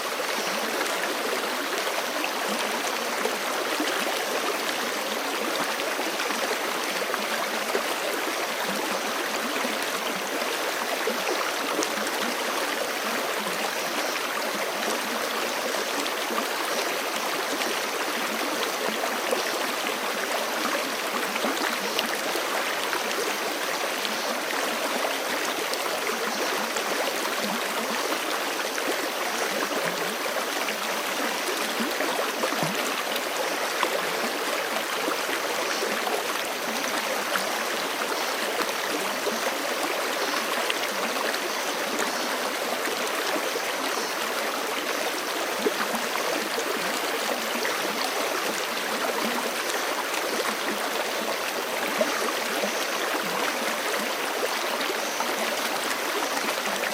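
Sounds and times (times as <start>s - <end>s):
stream babbling over rocks: 0.0s - 56.9s.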